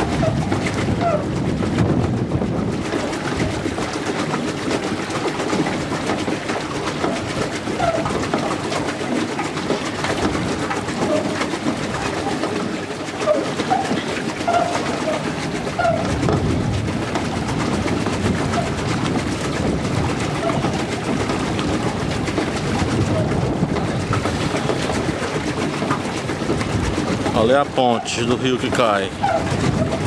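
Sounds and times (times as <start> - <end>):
boat rushing across water: 0.0 - 30.0.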